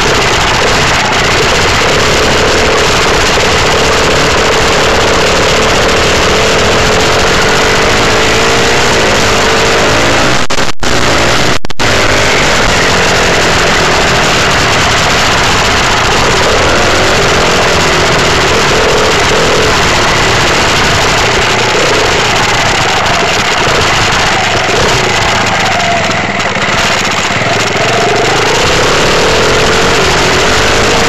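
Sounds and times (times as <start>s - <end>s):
dirt bike engine running: 0.0s - 31.0s
steady rush of noise: 0.0s - 31.0s.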